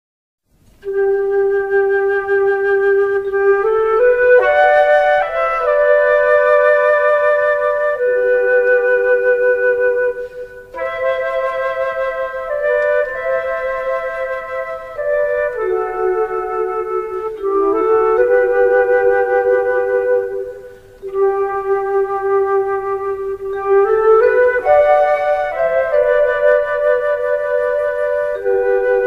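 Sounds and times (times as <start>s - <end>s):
slow melody of long notes: 0.6s - 29.0s.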